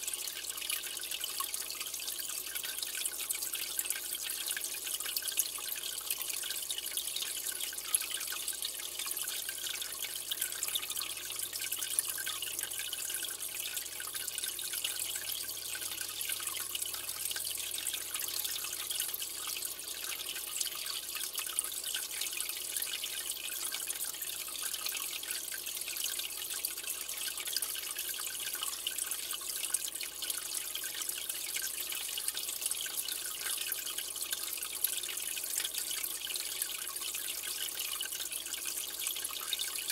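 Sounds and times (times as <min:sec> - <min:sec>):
aquarium water trickling: 0:00.0 - 0:39.9
water dripping: 0:00.0 - 0:39.9.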